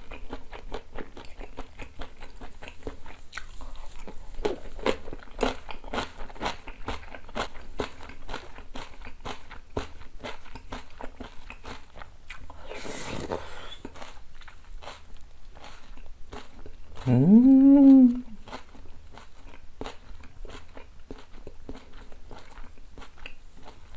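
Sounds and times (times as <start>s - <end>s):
person chewing: 0.0s - 23.9s.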